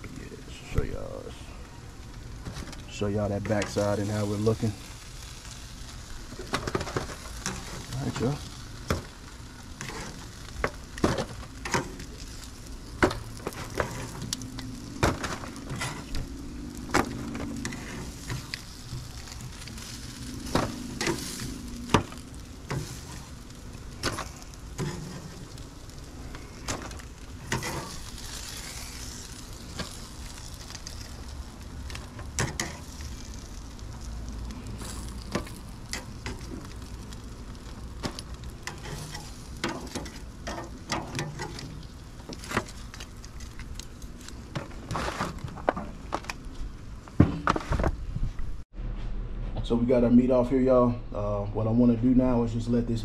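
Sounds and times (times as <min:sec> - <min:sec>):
chicken sizzling on a grill: 0:00.0 - 0:47.0.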